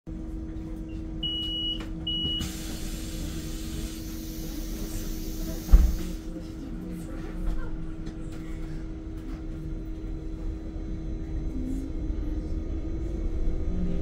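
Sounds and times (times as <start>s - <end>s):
electric bus hum: 0.1s - 14.0s.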